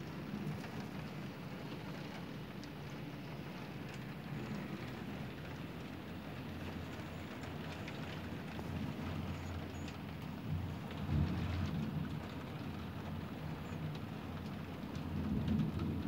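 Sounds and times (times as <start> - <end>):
heavy rain: 0.0 - 16.0
raindrops ticking on glass: 0.0 - 16.0
thunder rumbling: 0.0 - 16.0.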